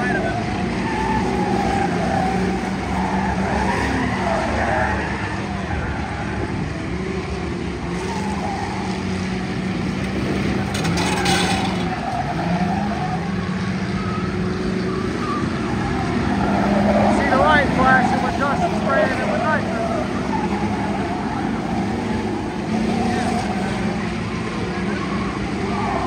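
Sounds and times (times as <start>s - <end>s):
race car engines running hard: 0.0s - 26.0s
tyres skidding: 0.0s - 26.0s.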